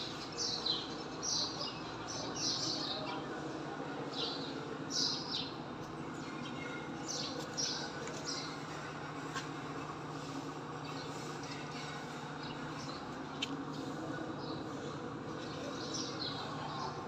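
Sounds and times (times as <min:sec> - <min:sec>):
birds chirping: 0:00.0 - 0:03.4, 0:04.0 - 0:17.0
tractor diesel engine idling: 0:00.0 - 0:17.0.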